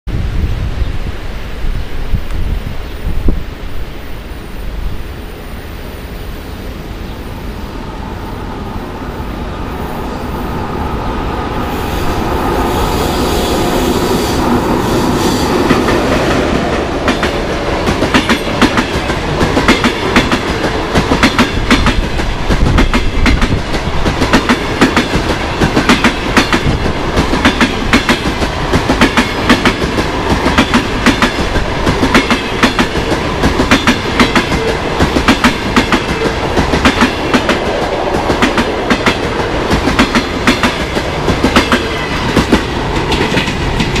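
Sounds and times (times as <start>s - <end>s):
electric locomotive passing: 0.2s - 44.0s.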